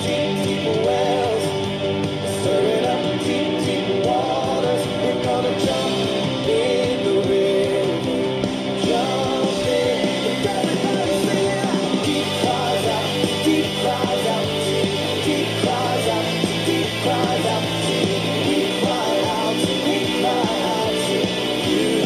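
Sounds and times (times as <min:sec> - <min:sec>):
upbeat song with singing: 0:00.0 - 0:22.0.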